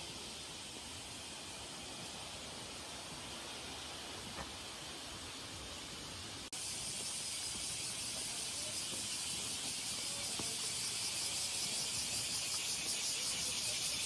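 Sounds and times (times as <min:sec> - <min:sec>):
cicadas shrilling: 0:00.0 - 0:14.0.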